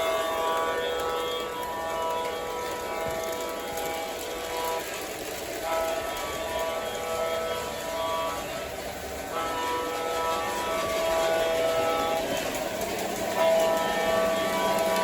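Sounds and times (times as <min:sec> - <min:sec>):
model train horn blasts: 0:00.0 - 0:15.0.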